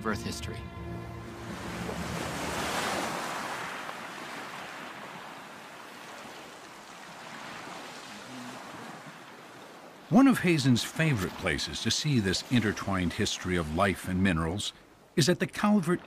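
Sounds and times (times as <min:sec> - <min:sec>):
small waves washing onto beach: 0:01.5 - 0:16.0.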